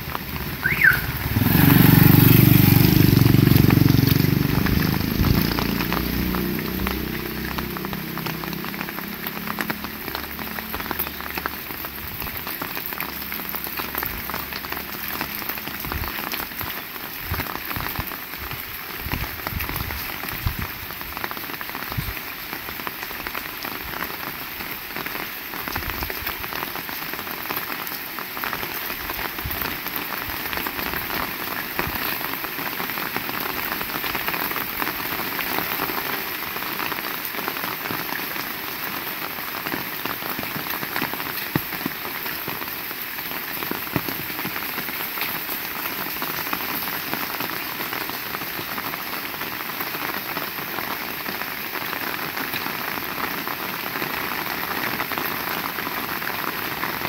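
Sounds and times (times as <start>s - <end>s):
heavy rain falling: 0.0s - 57.0s
raindrops striking close by: 0.0s - 57.0s.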